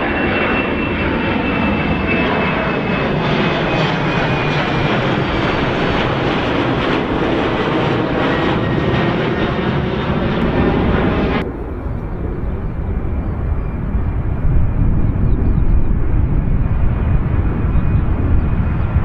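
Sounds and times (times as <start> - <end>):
jet engines roaring: 0.0 - 19.0
low rumble: 2.8 - 19.0.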